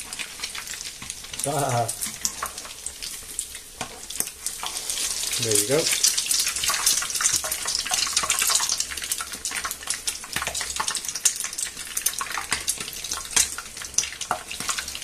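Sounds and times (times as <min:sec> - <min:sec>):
bread sizzling in oil: 0:00.0 - 0:15.0.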